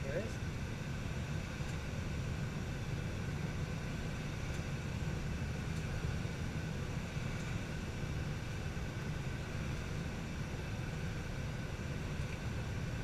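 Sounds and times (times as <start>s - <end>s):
airflow rushing over canopy: 0.0s - 13.0s.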